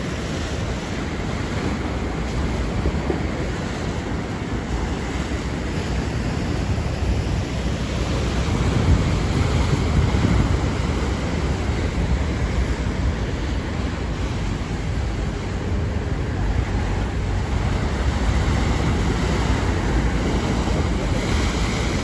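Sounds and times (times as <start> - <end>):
ocean surf breaking: 0.0 - 22.0
wind rumbling on microphone: 0.0 - 22.0.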